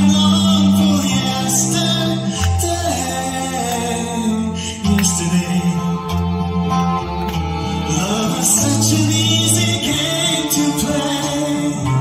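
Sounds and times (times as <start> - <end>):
man singing into microphone: 0.0 - 6.8, 7.8 - 12.0
backing track with bass notes: 0.0 - 12.0.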